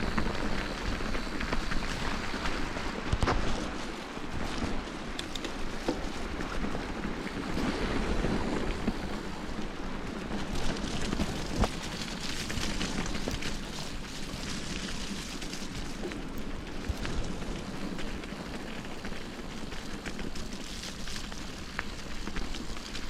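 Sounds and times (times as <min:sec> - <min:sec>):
bike clicks and rattles: 0:00.0 - 0:23.0
tyre and wind rush: 0:00.0 - 0:23.0.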